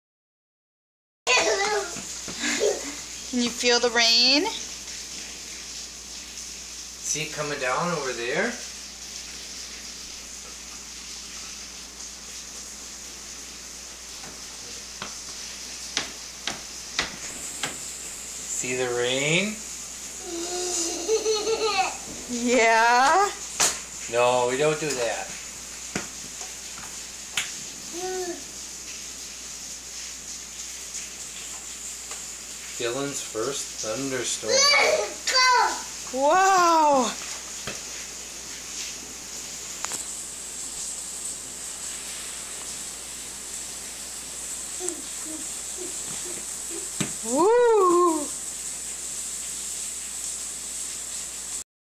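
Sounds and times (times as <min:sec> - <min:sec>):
rain falling: 0:01.3 - 0:51.6.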